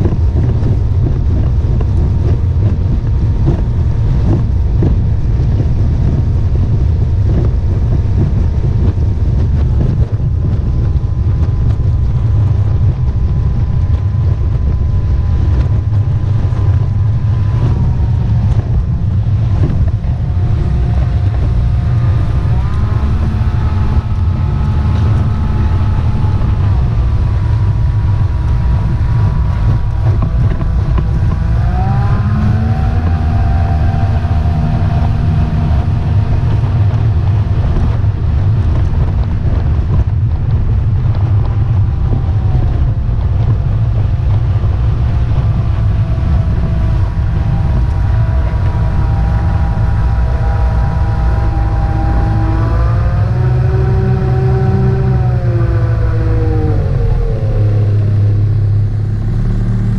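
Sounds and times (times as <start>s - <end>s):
outboard engine running: 0.0s - 59.9s
wind and water rush: 0.0s - 59.9s.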